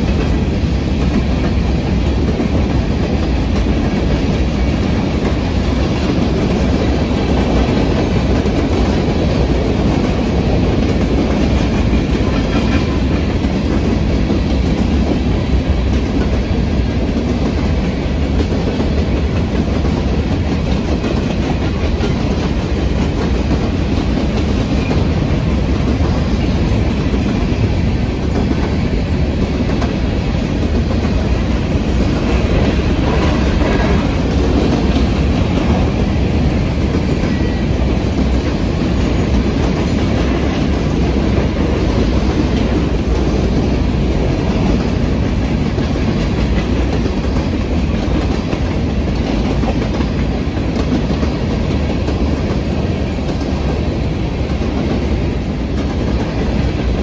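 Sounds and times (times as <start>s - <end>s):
freight train rumbling past: 0.0s - 57.0s
wheels clacking over rail joints: 0.0s - 57.0s.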